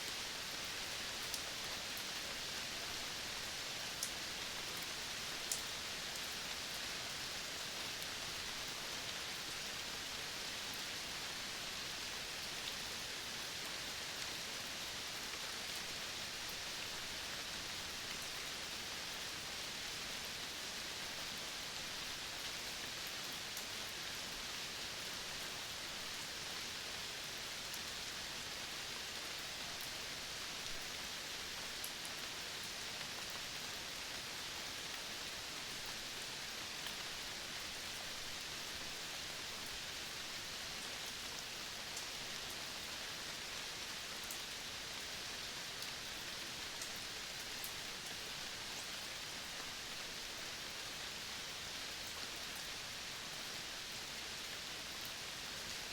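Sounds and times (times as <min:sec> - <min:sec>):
steady outdoor hiss: 0:00.0 - 0:55.9.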